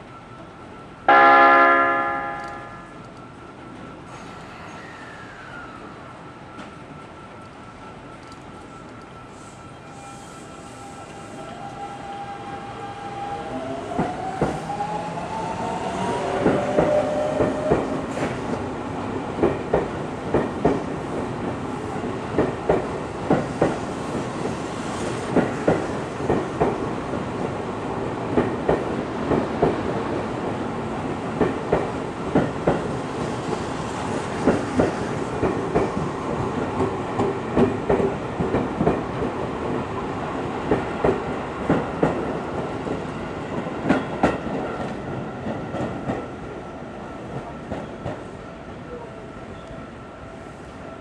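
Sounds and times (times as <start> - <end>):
train rumble: 1.6 - 51.0.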